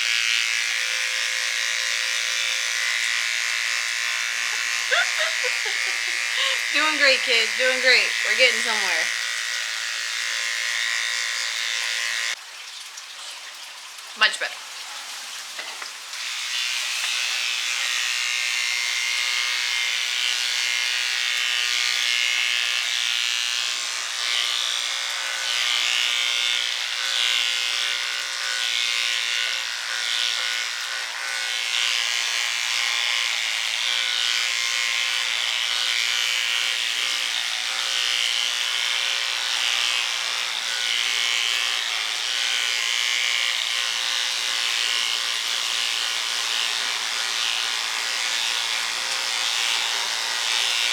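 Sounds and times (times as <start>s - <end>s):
electric hair clippers buzzing: 0.0s - 12.4s, 15.6s - 50.9s.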